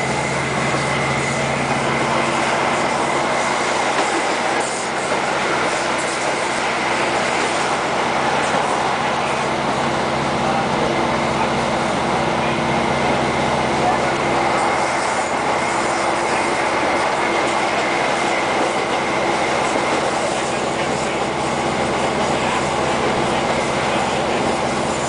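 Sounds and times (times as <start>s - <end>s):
diesel engine and wheels droning: 0.0s - 25.0s.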